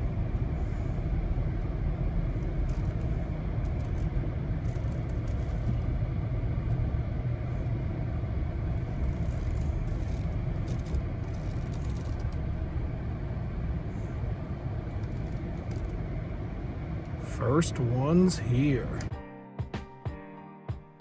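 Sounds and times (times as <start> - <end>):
car rumbling: 0.0 - 19.1.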